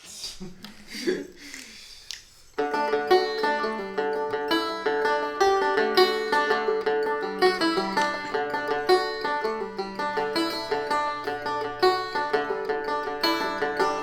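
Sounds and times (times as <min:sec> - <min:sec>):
plucked acoustic string instrument: 0:02.5 - 0:14.0.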